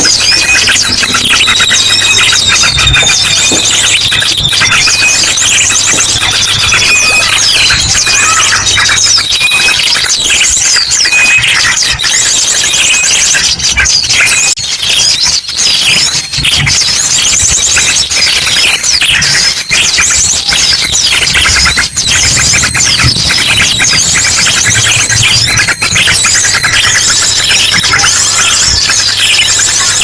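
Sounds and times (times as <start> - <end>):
chorus of small birds chirping: 0.0 - 30.0
drongo calls: 0.0 - 30.0.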